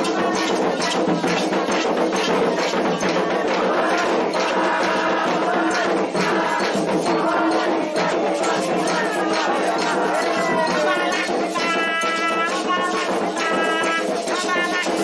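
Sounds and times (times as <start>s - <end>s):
group chanting: 0.0s - 15.0s
hand drums: 0.0s - 15.0s
rattling percussion: 0.0s - 15.0s.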